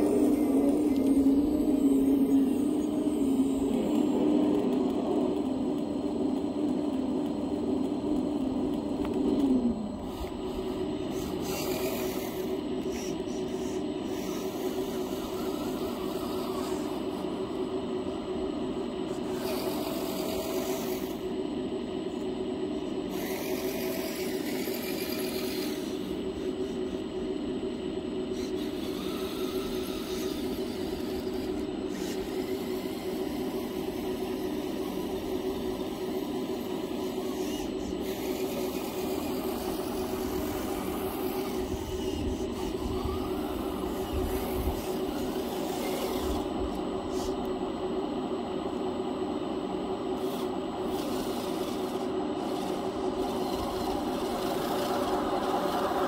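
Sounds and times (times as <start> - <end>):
small electric motors whining: 0.0 - 56.0.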